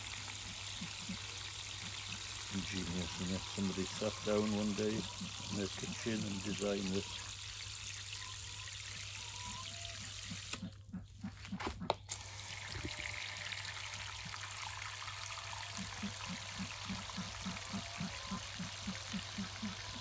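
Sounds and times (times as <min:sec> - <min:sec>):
water pouring from hose: 0:00.0 - 0:10.7, 0:12.1 - 0:20.0.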